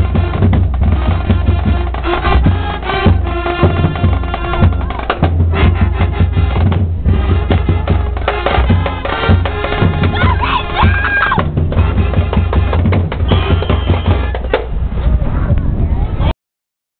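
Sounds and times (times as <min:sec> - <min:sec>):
loud music with heavy drums: 0:00.0 - 0:14.5
deep bass line: 0:00.0 - 0:16.0.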